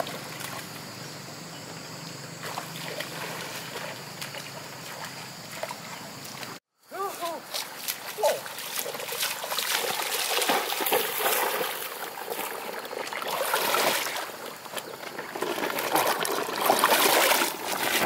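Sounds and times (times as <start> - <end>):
floodwater splashing and trickling: 0.0 - 1.2, 2.2 - 18.0.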